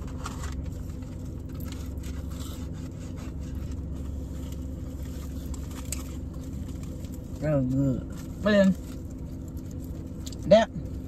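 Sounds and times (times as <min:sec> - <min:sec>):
paper wrappers rustling: 0:00.0 - 0:10.2
car cabin hum: 0:00.0 - 0:11.0.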